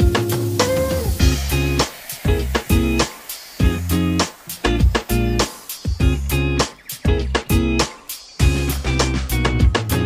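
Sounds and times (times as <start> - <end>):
music with plucked guitar and beat: 0.0 - 10.0.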